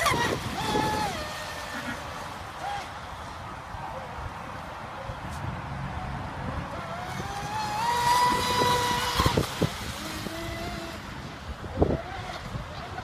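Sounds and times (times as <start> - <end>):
rc boat motor whine: 0.0 - 5.2, 5.8 - 13.0.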